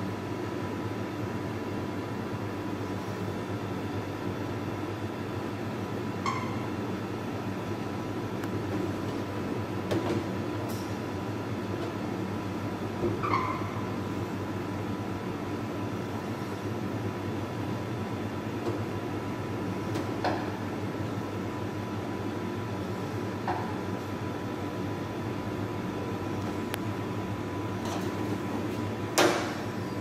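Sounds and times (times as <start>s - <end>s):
workshop hum: 0.0s - 30.0s.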